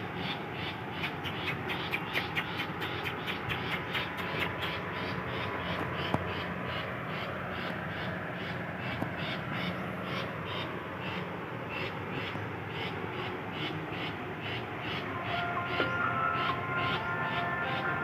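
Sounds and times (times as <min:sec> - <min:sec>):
insect chirping rhythmically: 0:00.6 - 0:15.5.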